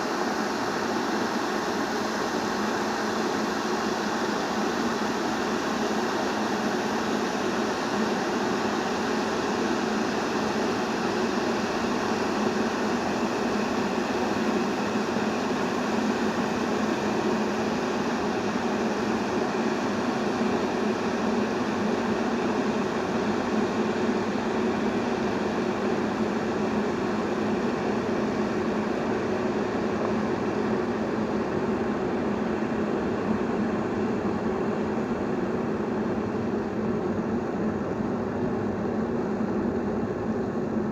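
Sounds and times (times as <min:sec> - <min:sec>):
electric kettle boiling water: 0:00.0 - 0:40.9.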